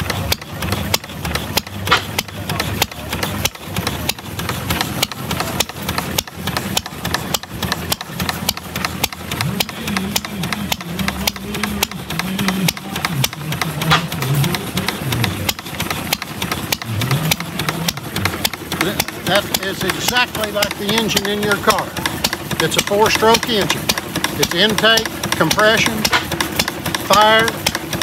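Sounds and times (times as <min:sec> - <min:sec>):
small engine popping: 0:00.0 - 0:28.0.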